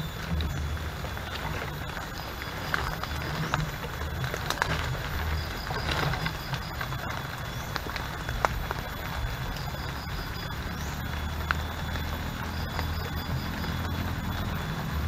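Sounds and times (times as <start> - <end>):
footsteps through wet undergrowth: 0.0 - 15.0
rain hiss: 0.0 - 15.0
sharp ticks: 0.0 - 15.0.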